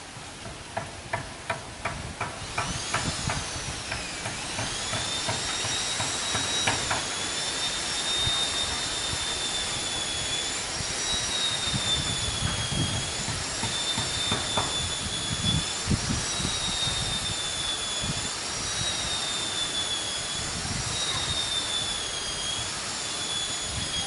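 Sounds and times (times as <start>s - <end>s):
high-pitched machine whine: 2.2s - 24.0s.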